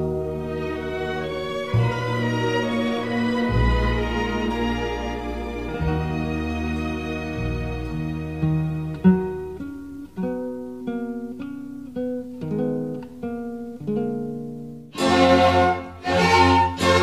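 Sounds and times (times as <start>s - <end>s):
acoustic guitar picking notes: 0.0s - 17.0s.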